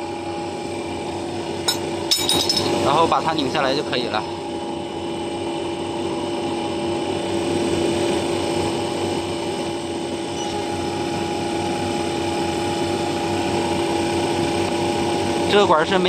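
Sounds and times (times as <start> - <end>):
refrigeration compressor humming: 0.0 - 16.0.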